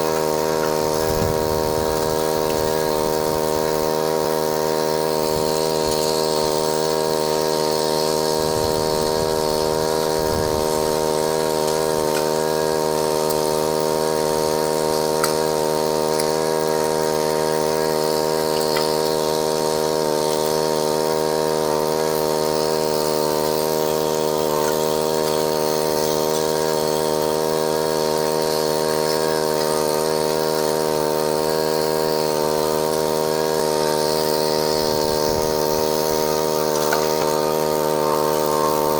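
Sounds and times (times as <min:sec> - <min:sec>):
water pump motor running: 0:00.0 - 0:38.9.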